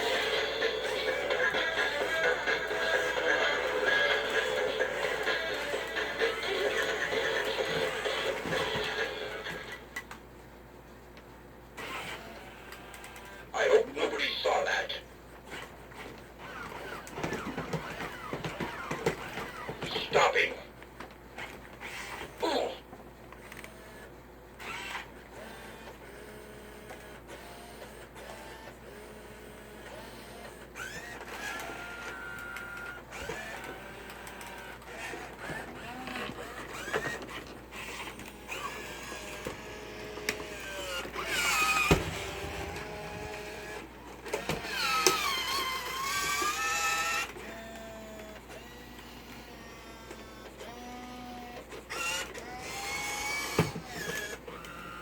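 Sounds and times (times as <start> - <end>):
toy robot motors whirring: 0.0 - 9.8, 11.8 - 13.4, 15.5 - 20.1, 21.4 - 22.4, 24.6 - 55.0.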